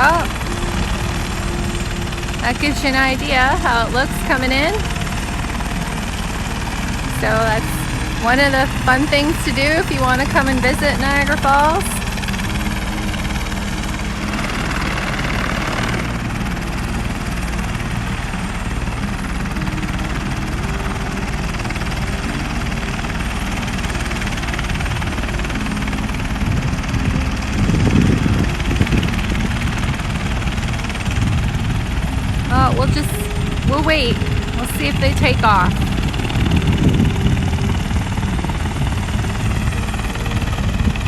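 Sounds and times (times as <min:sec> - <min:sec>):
helicopter engine and rotor hum: 0:00.0 - 0:41.0
low rumble: 0:00.0 - 0:41.0.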